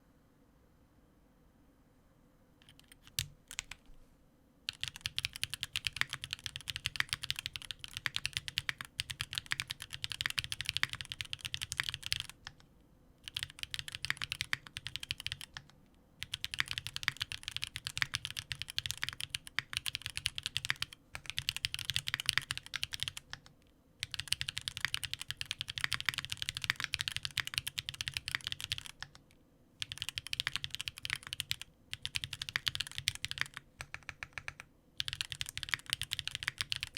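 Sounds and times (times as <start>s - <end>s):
mechanical keyboard typing: 2.6s - 3.8s, 4.7s - 36.9s.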